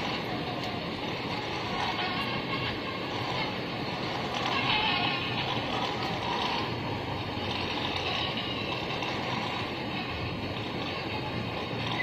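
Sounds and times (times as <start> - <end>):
toy car motor whirring: 0.0 - 12.0
toy car sound effect: 0.0 - 12.0.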